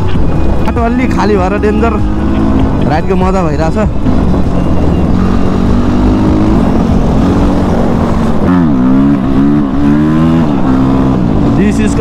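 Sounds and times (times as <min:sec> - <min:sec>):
dirt bike engine revving: 0:01.2 - 0:12.0.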